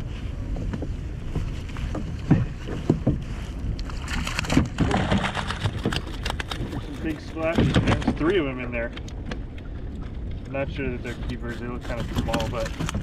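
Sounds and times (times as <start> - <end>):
water splashing and streaming: 1.5 - 13.0.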